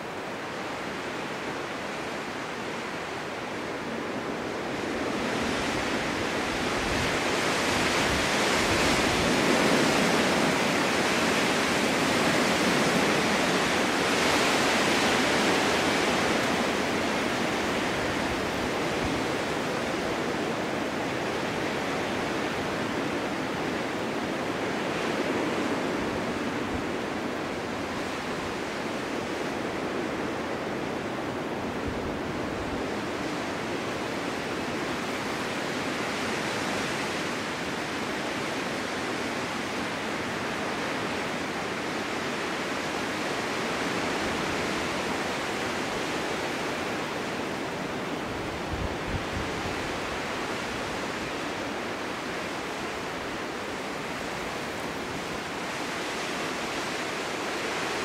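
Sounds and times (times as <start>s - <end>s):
snowstorm wind blowing: 0.0s - 58.0s.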